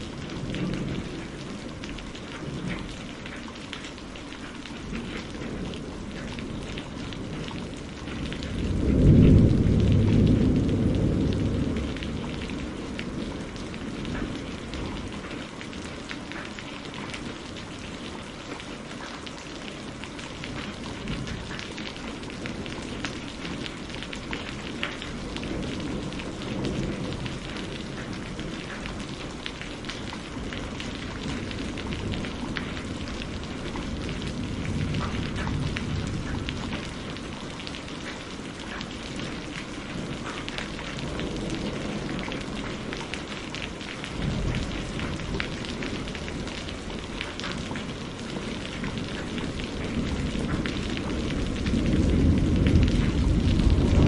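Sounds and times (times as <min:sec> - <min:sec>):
distant thunder rumbling: 0:00.0 - 0:03.4, 0:04.8 - 0:16.4, 0:19.9 - 0:54.0
steady rain falling: 0:00.0 - 0:54.0.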